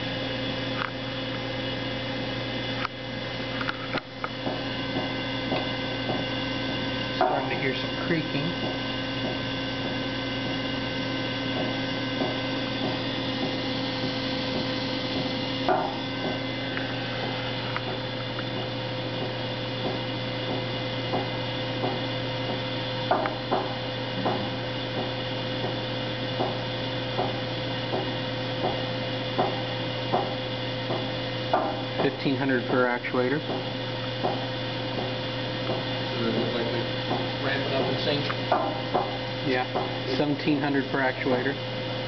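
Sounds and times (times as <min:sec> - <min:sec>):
test rig hum: 0:00.0 - 0:42.0.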